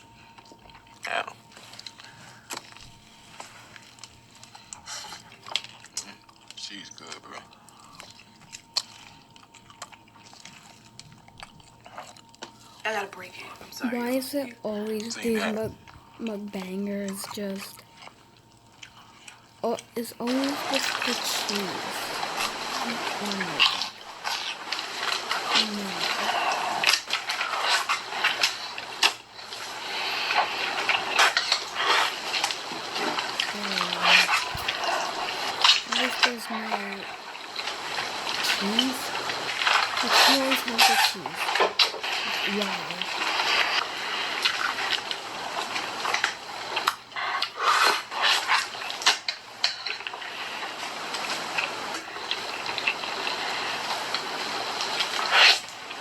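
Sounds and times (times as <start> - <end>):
crunching and chewing snacks: 0.0 - 12.8, 17.0 - 56.0.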